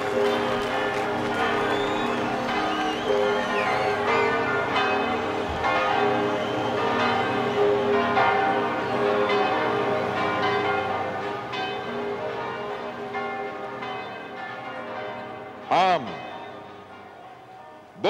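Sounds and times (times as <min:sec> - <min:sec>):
bells ringing: 0:00.0 - 0:18.0.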